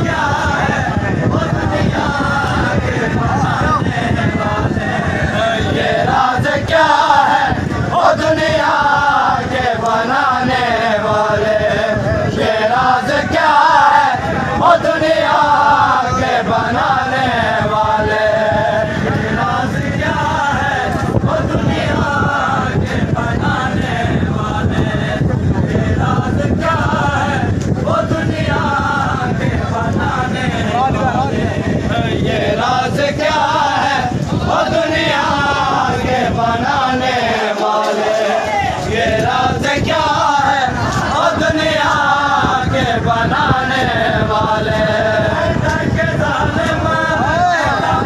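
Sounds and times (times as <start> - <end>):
crowd din: 0.0 - 48.0
men chanting in unison: 0.0 - 48.0
reciter singing into a microphone: 0.0 - 48.0.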